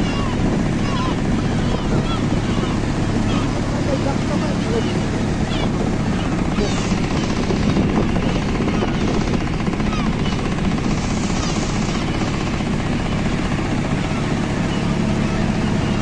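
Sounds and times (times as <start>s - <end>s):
faint bird calls: 0.0s - 16.0s
motor engine droning: 0.0s - 16.0s.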